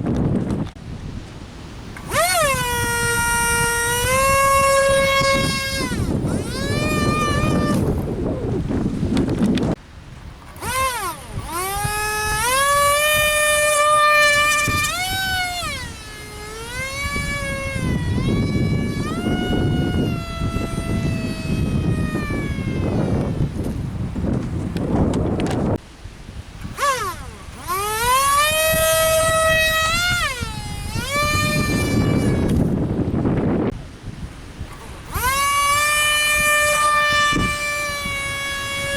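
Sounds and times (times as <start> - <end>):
electric ducted fan whining: 0.0 - 38.9
wind noise on microphone: 0.0 - 38.9.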